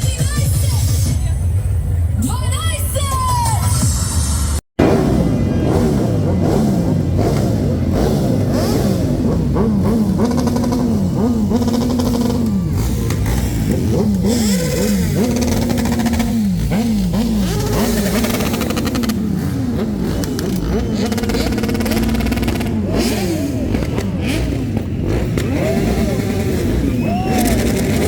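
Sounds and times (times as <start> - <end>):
vehicle engine revving: 4.8 - 28.0.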